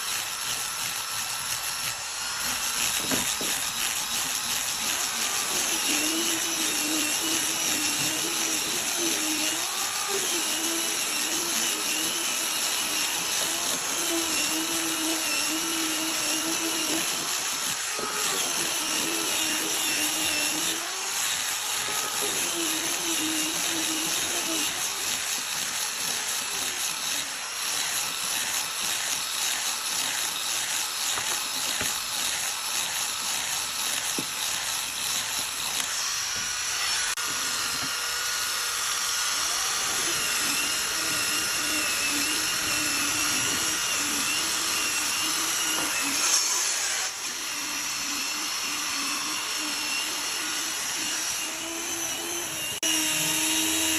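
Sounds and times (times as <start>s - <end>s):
electric power tool whining: 0.0s - 53.9s.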